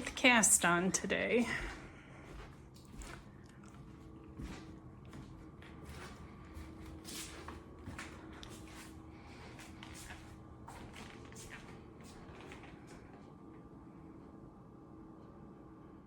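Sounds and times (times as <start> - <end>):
shuffling footsteps: 0.0 - 13.4.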